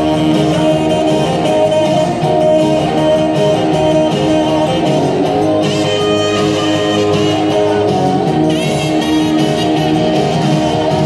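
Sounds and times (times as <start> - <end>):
loud guitar music: 0.0 - 11.0.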